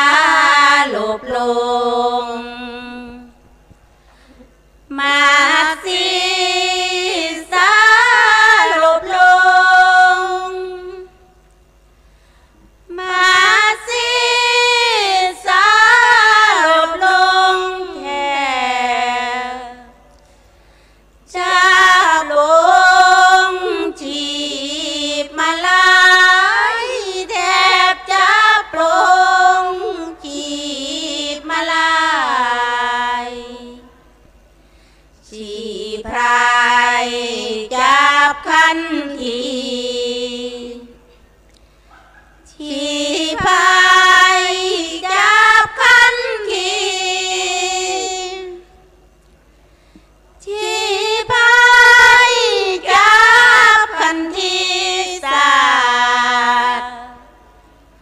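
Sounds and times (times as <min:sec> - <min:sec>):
women singing unaccompanied: 0:00.0 - 0:03.5, 0:04.9 - 0:11.3, 0:12.9 - 0:20.0, 0:21.3 - 0:34.0, 0:35.2 - 0:41.2, 0:42.4 - 0:48.9, 0:50.4 - 0:57.4.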